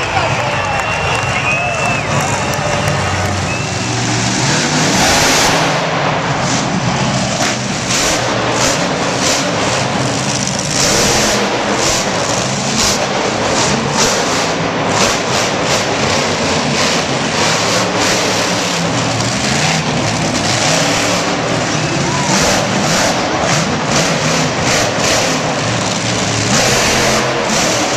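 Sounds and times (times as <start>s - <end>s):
motorsport engines revving: 0.0s - 27.9s.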